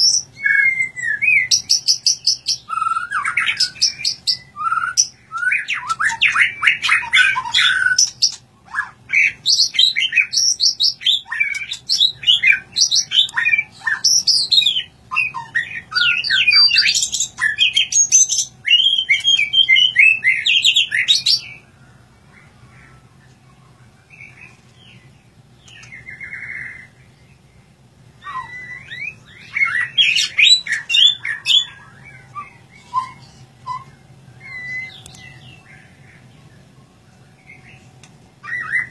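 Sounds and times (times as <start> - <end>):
bird singing clear notes: 0.0 - 38.9.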